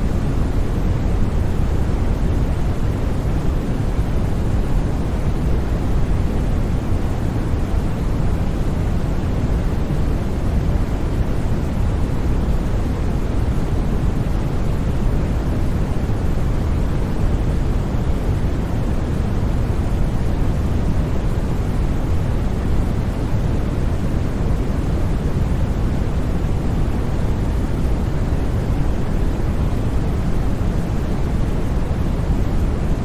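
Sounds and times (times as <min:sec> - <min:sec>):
low white noise rush: 0:00.0 - 0:33.0.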